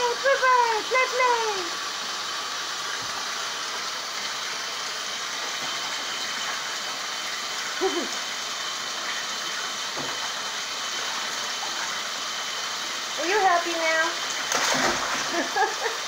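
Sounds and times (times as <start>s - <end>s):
tap water running into bathtub: 0.0s - 16.0s.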